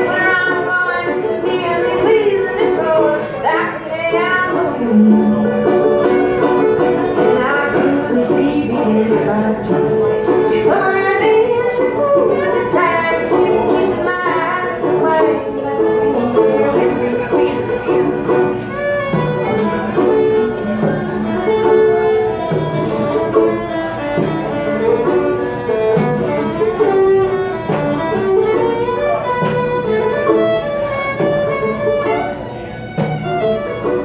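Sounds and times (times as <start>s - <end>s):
bowed fiddle melody: 0.0s - 34.0s
picked banjo: 0.0s - 34.0s.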